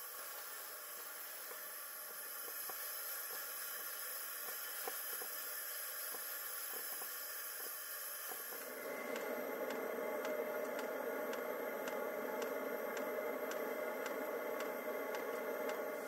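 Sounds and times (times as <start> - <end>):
camp stove burner hissing: 0.0 - 16.0.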